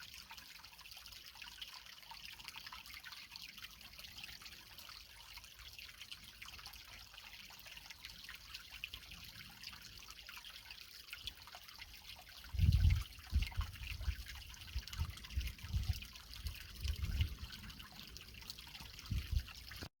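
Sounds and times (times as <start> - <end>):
creek water trickling over rocks: 0.0 - 20.0.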